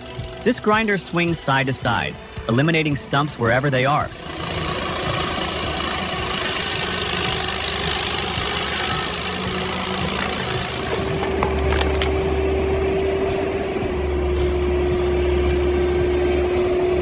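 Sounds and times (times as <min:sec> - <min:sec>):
deep engine drone: 0:00.0 - 0:17.0
engine running: 0:00.0 - 0:17.0
steady hum: 0:00.0 - 0:17.0
stump grinder grinding: 0:00.0 - 0:17.0.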